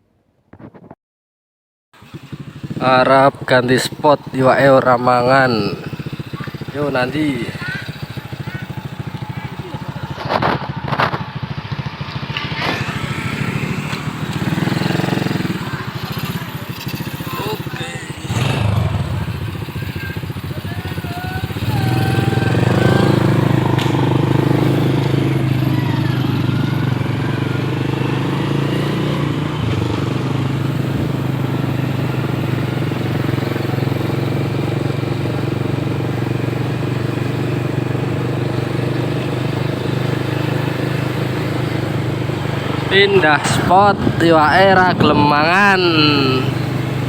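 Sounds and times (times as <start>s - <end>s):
motorcycle engine running: 2.0s - 47.0s.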